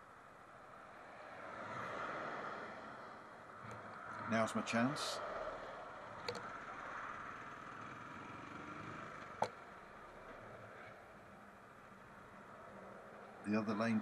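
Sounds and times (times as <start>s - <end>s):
motorcycle road noise: 0.0s - 14.0s
lorries passing: 1.3s - 14.0s.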